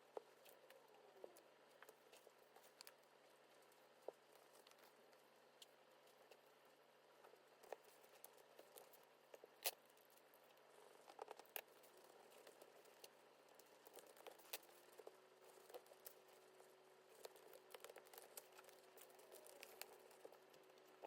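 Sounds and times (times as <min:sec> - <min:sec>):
light taps and crinkling: 0:00.0 - 0:21.0.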